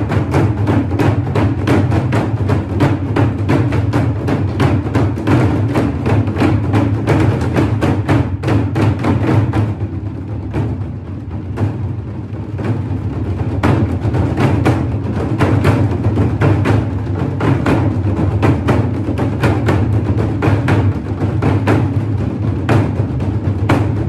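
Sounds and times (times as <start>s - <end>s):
music with steady drum beat: 0.0s - 24.0s.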